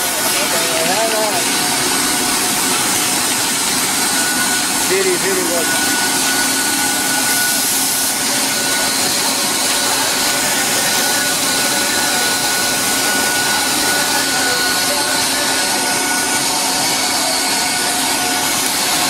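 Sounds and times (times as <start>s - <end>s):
high machine whine: 0.0s - 19.0s
machinery hum and hiss: 0.0s - 19.0s.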